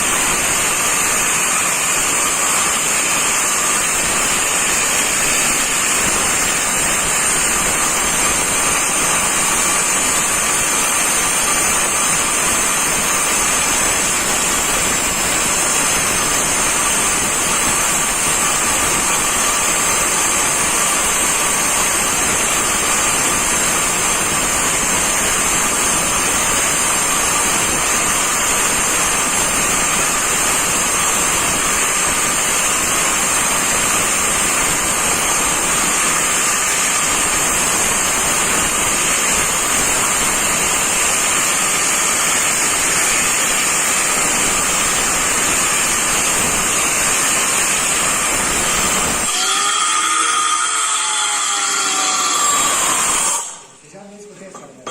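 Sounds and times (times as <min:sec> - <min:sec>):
angle grinder whining: 0:00.0 - 0:53.8.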